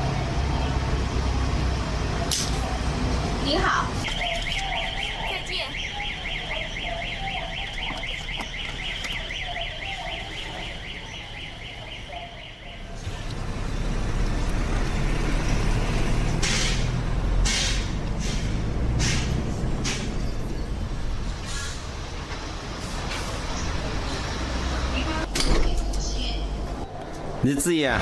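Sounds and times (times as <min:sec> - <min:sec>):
low traffic rumble: 0:00.0 - 0:28.0.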